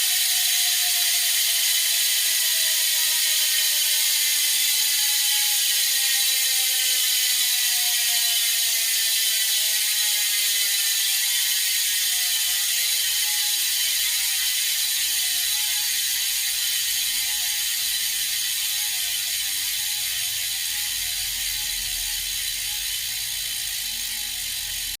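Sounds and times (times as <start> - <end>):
bicycle freehub ticking: 0.0 - 25.0.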